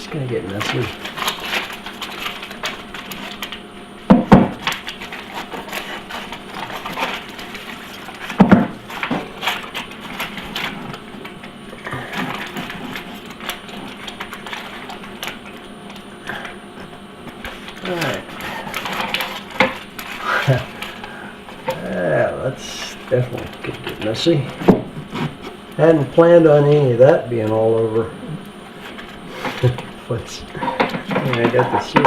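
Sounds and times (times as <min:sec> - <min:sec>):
foil tape crinkling and rustling: 0:00.2 - 0:32.0.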